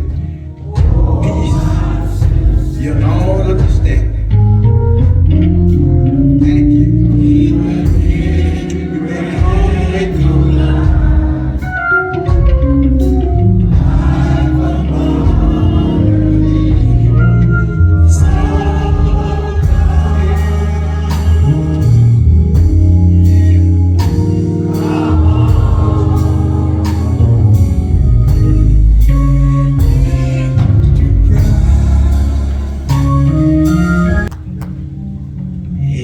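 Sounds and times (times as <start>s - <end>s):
drum hits: 0.0s - 4.4s, 7.8s - 17.2s, 18.1s - 23.4s, 24.0s - 34.6s
gospel singing: 0.0s - 4.7s, 5.6s - 34.4s
heavy bass line: 0.0s - 36.0s.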